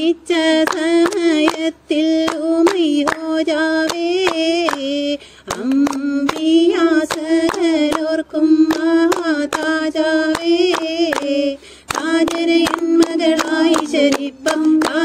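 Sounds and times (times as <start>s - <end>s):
rhythmic hand claps: 0.0s - 15.0s
women singing folk song: 0.0s - 15.0s.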